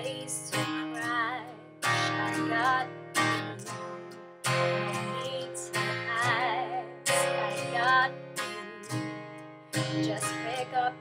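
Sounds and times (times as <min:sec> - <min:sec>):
woman singing with vibrato: 0:00.0 - 0:08.9, 0:09.8 - 0:11.0
strummed acoustic guitar: 0:00.0 - 0:11.0.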